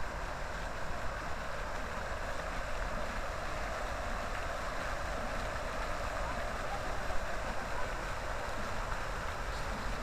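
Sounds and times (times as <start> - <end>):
fountain jets splashing into pool: 0.0 - 10.0.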